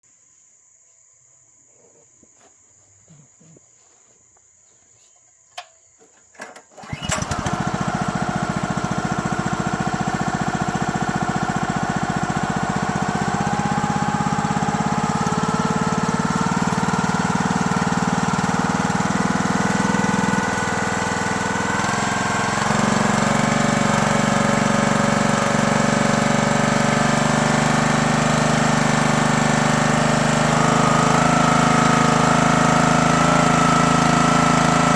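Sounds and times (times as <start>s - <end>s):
small gas engine running: 6.8s - 34.9s.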